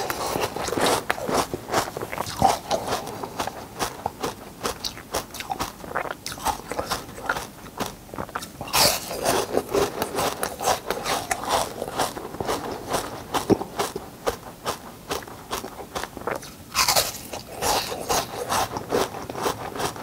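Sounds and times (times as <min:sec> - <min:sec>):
ice crunching between teeth: 0:00.0 - 0:20.0.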